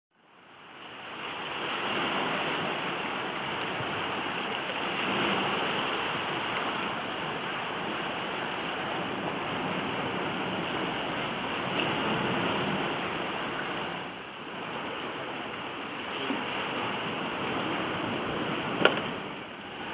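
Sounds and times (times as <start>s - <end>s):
surf washing against rocks: 0.5s - 19.9s.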